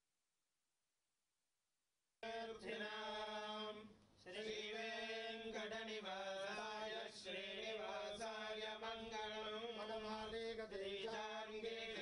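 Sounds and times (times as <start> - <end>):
men chanting: 2.2 - 12.0.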